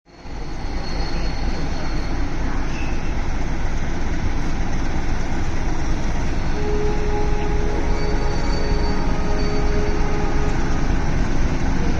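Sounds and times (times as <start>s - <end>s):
diesel locomotive rumbling: 0.1s - 11.9s.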